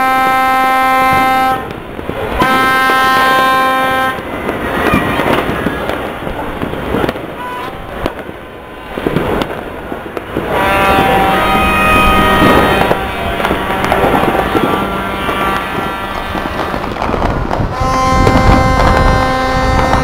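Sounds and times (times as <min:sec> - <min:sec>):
horn blasts: 0:00.0 - 0:06.4, 0:10.2 - 0:20.0
fireworks popping and crackling: 0:00.0 - 0:20.0.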